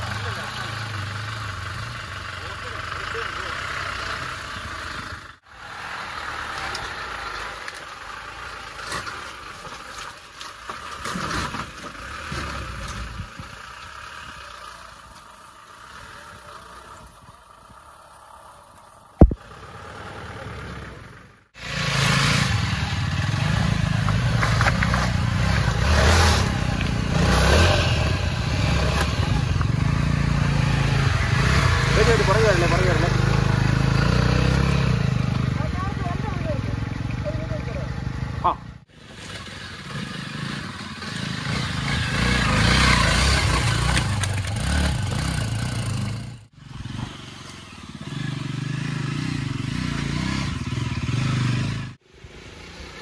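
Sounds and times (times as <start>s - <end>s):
motorcycle engines running: 0.0s - 9.6s, 11.9s - 53.0s.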